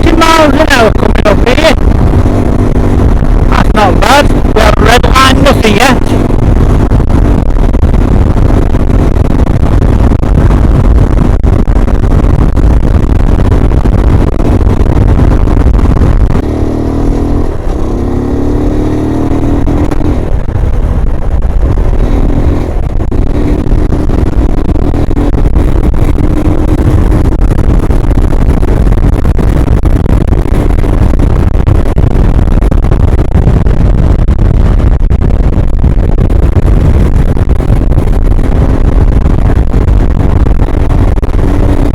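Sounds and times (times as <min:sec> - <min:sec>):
motorcycle engine revving: 0:00.0 - 0:41.9
wind rush on microphone: 0:00.0 - 0:41.9.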